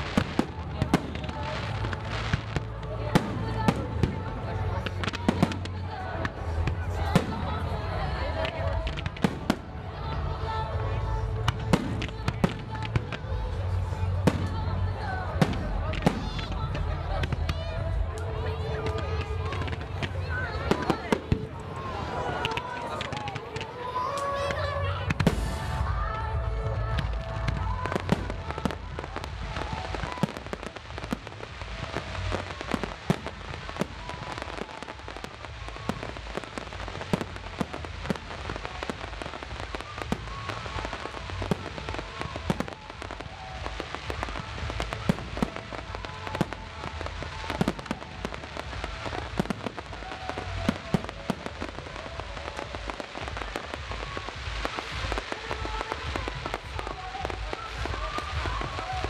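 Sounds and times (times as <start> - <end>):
firework bangs: 0.0 - 59.0
firework crackling: 0.0 - 59.0.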